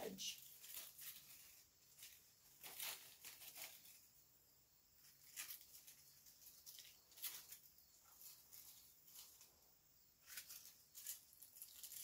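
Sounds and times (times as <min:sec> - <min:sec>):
artificial leaf stems rustling: 0:00.0 - 0:12.0.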